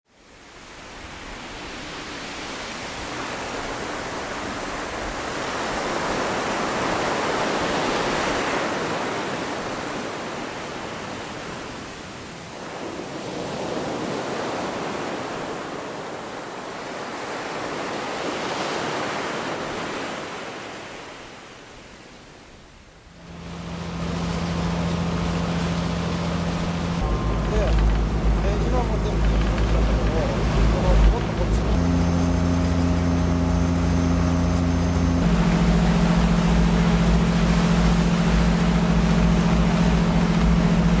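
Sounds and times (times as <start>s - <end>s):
sea waves on rocky shore: 0.1s - 41.0s.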